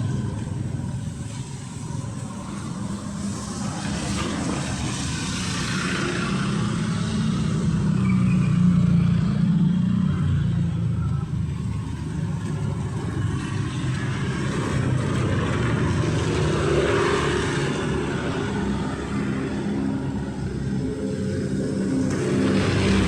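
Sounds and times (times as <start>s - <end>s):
cars and motorbikes passing: 0.0s - 23.0s.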